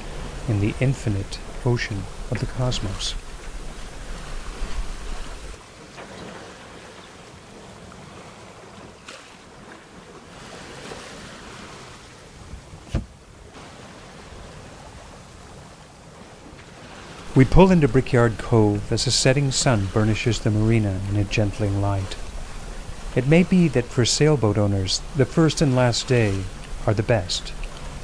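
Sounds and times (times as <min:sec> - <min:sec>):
water rushing along a hull: 0:00.0 - 0:28.0.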